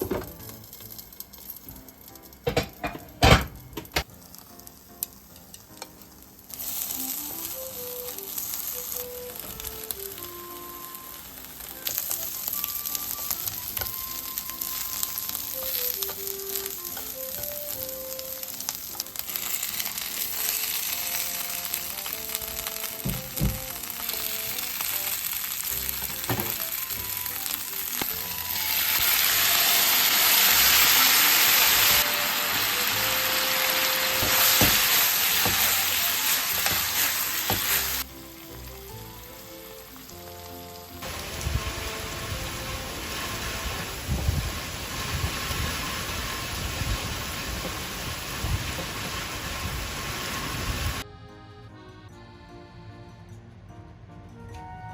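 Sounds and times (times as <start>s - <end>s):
gentle background melody: 0.0s - 49.8s, 51.0s - 54.9s
food sizzling in a frying pan: 0.0s - 51.0s.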